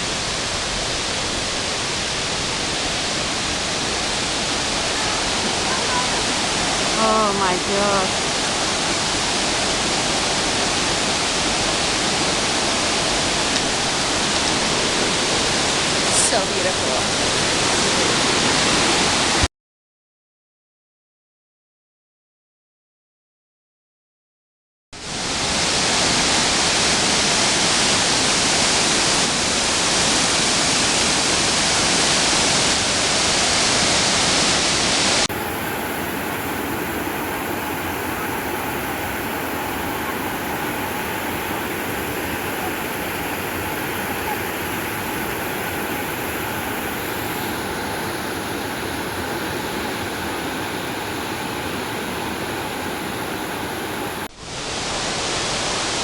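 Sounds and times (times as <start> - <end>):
waterfall rushing: 0.0 - 19.5, 25.1 - 56.0.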